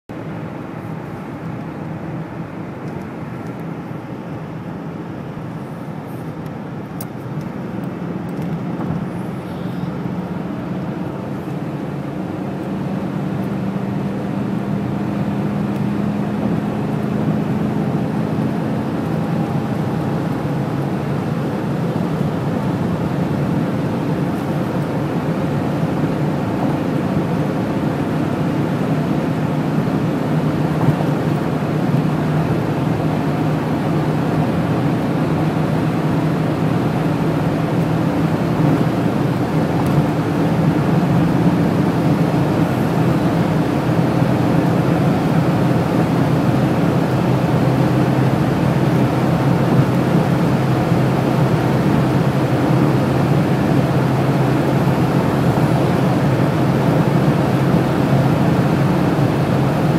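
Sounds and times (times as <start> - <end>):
road and wind noise: 0.0 - 59.9
car engine accelerating: 0.1 - 59.9.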